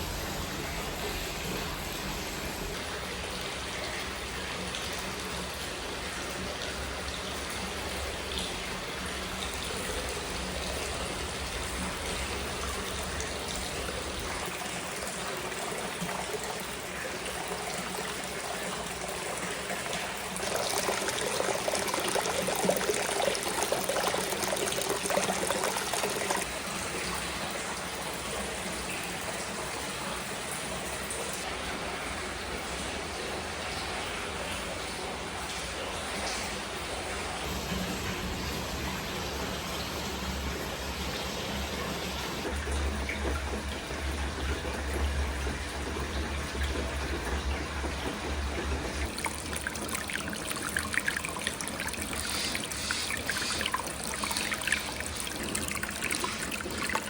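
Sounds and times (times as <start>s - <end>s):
water splashing into a bath: 2.7s - 37.7s, 40.9s - 57.0s.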